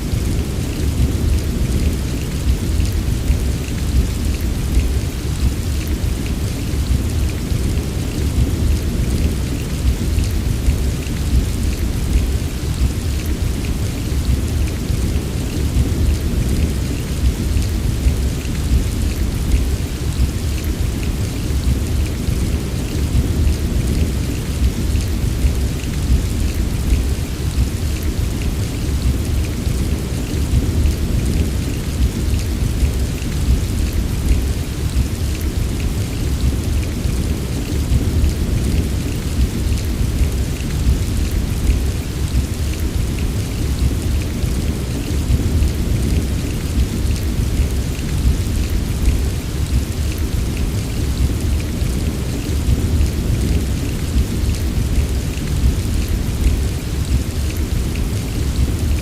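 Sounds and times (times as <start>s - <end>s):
heavy rain patter: 0.0s - 59.0s.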